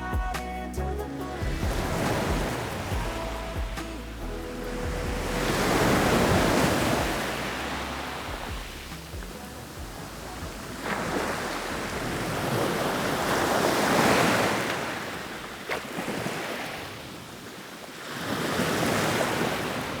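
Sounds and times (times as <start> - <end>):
sea waves washing in: 0.9 - 20.0.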